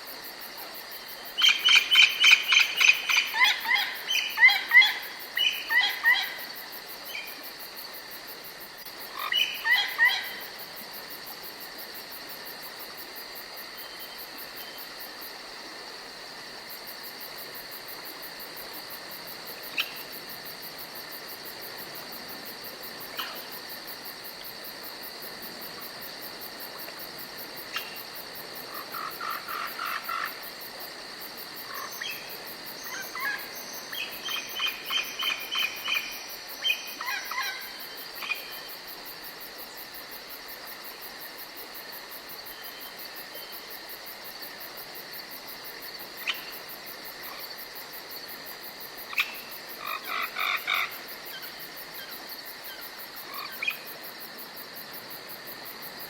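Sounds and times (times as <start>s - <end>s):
high-pitched insect trill: 0.1s - 15.3s, 18.6s - 54.9s.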